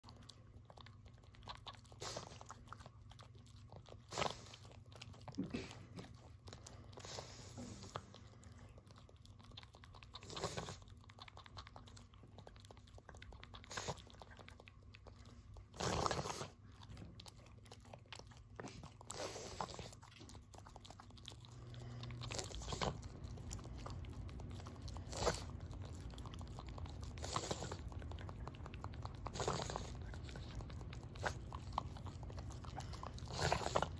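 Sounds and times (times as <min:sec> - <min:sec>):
dog chewing fur: 0:00.0 - 0:33.9.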